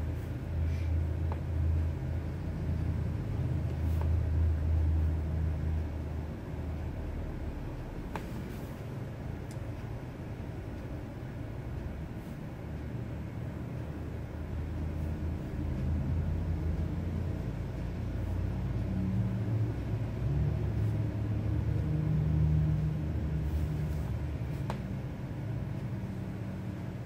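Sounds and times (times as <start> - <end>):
low machine rumble: 0.0 - 27.0.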